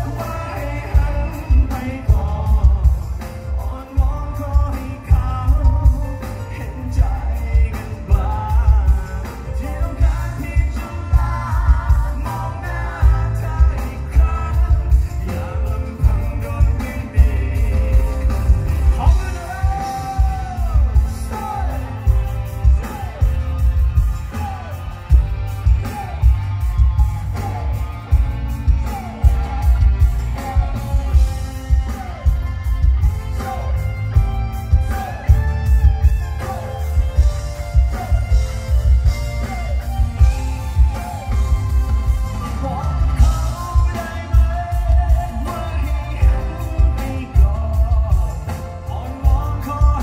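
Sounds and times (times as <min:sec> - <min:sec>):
live band over pa: 0:00.0 - 0:50.0
person singing: 0:00.0 - 0:50.0.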